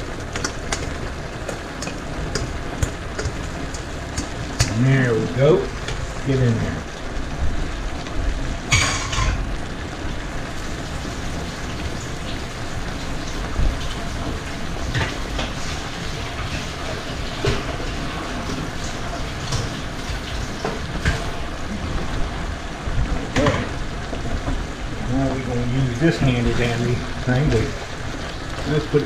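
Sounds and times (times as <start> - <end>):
crackle: 0.0 - 29.0
sauce sizzling in a pan: 0.0 - 29.0.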